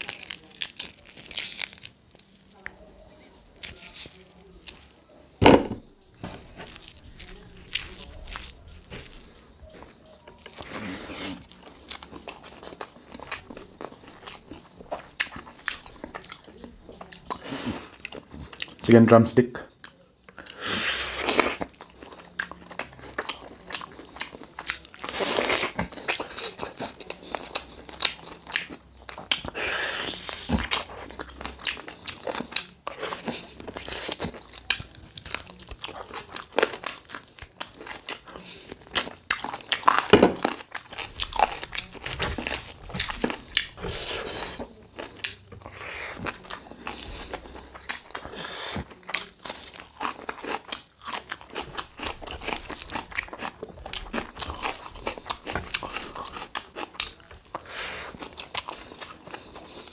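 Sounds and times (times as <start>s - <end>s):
person biting and chewing: 0.0s - 2.3s, 3.6s - 18.8s, 19.8s - 59.9s.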